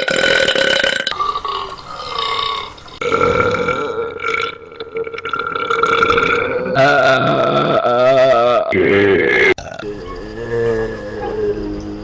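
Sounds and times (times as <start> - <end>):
long burps: 0.0 - 9.9.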